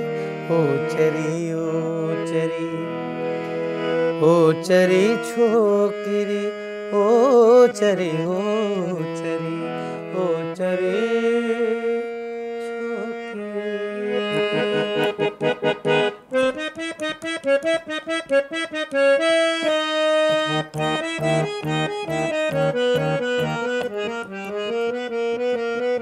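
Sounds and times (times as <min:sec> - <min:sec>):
harmonium playing: 0:00.0 - 0:26.0.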